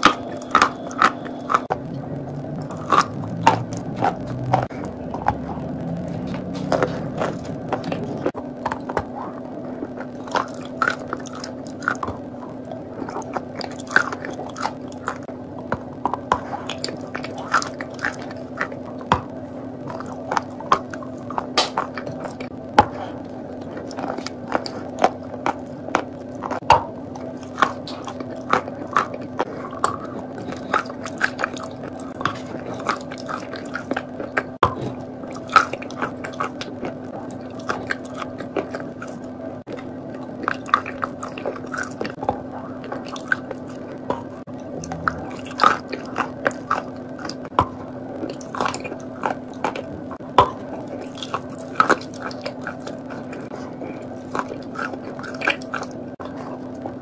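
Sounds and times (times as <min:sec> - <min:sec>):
crunchy biting and chewing: 0:00.0 - 0:57.0.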